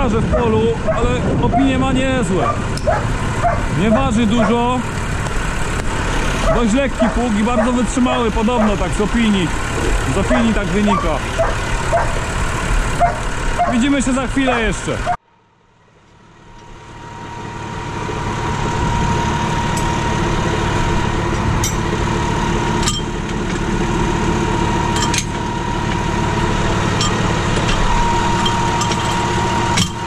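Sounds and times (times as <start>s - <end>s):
diesel tractor engine idling: 0.0s - 30.0s
high whine: 0.0s - 30.0s.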